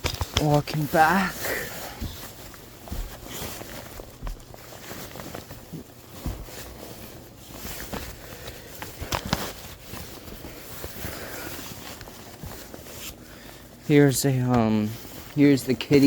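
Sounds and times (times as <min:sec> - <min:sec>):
footsteps in attic: 0:00.0 - 0:16.0
rustling: 0:00.0 - 0:16.0.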